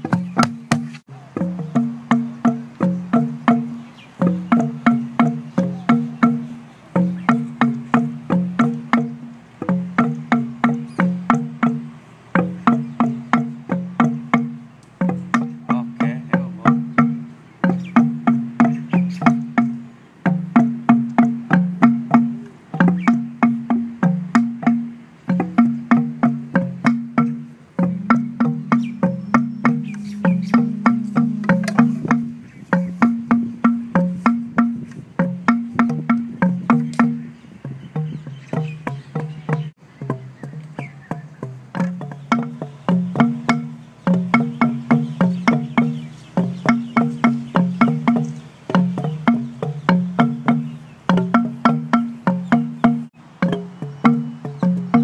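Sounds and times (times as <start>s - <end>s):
bamboo stamping pipes: 0.0s - 55.0s.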